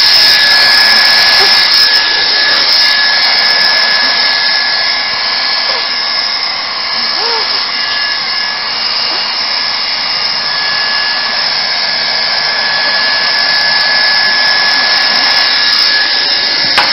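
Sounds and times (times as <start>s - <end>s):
hot-air welder hissing with whine: 0.0s - 16.9s.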